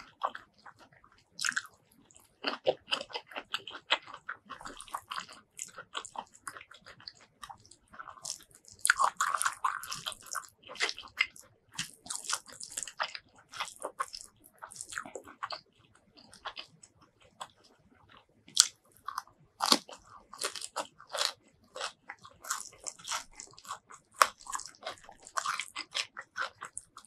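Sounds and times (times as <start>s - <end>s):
wet chewing and lip smacking: 0.0s - 27.0s
crunchy bites: 0.1s - 17.6s, 18.5s - 27.0s.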